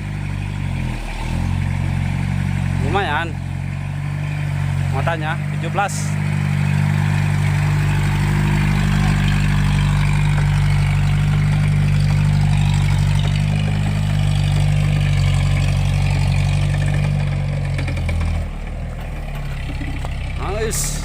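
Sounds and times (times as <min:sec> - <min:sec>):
engine running with low drone: 0:00.0 - 0:21.0.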